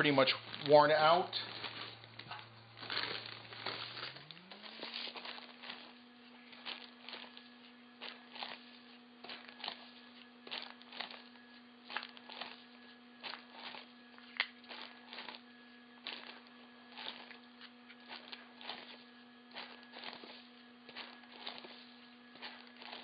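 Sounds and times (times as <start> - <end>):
polishing media crackles: 0.0 - 23.0
vibratory tumbler humming: 0.0 - 23.0.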